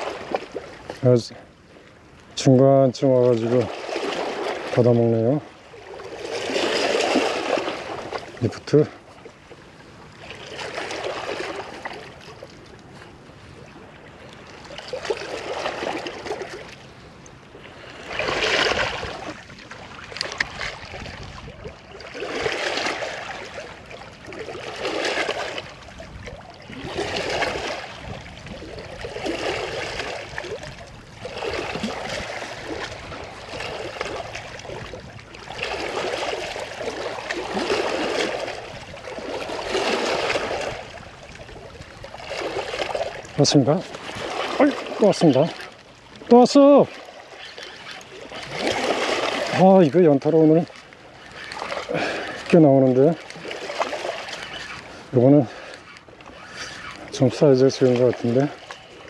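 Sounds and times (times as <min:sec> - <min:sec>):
waves lapping over rocks: 0:00.0 - 0:59.0.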